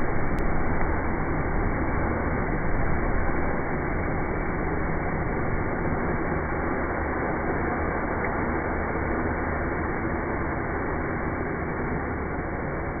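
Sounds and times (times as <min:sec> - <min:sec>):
wood fire roaring: 0:00.0 - 0:13.0.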